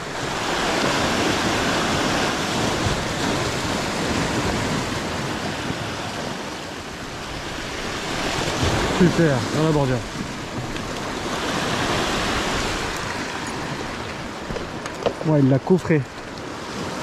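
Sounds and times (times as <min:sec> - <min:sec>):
sea surf breaking over rocks: 0:00.0 - 0:17.0.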